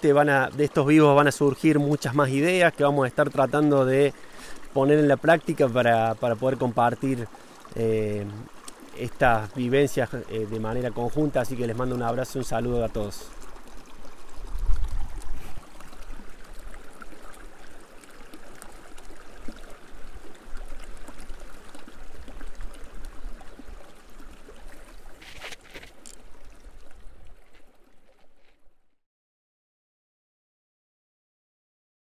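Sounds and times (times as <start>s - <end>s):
river water rushing over stones: 0.0s - 28.3s.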